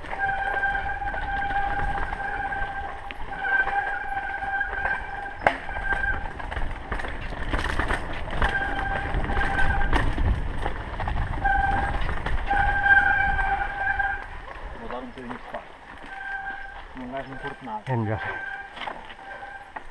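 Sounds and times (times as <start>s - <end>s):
bike rattling over bumps: 0.0s - 19.9s
brake squeal: 0.0s - 19.9s.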